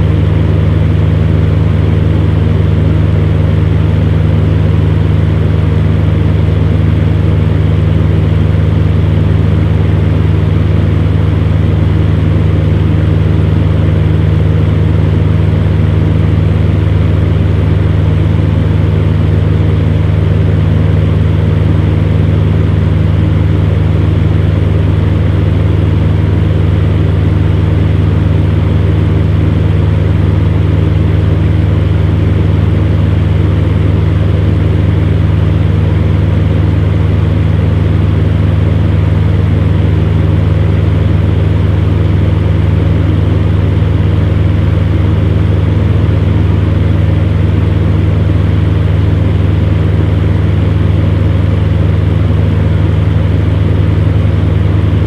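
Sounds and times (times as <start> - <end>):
fan air rushing: 0.0 - 55.0
fan heater motor hum: 0.0 - 55.0.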